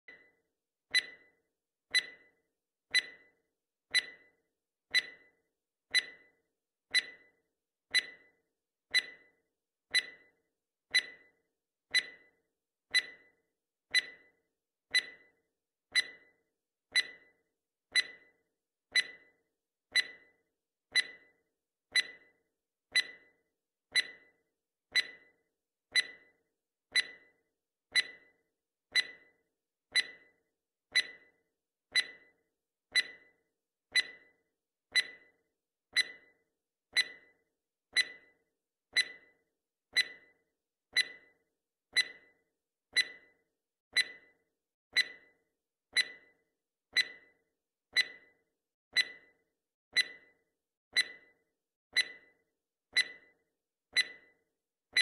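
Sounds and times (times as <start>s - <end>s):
timer ticking: 0.9s - 43.4s, 44.0s - 44.4s, 45.0s - 47.4s, 48.0s - 48.4s, 49.0s - 49.4s, 50.0s - 50.4s, 51.0s - 51.4s, 52.0s - 54.4s.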